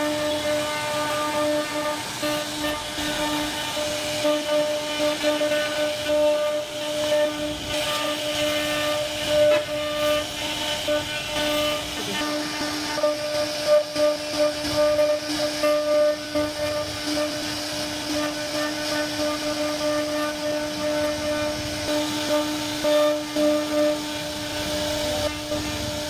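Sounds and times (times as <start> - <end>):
cnc router spindle whining: 0.0 - 26.0.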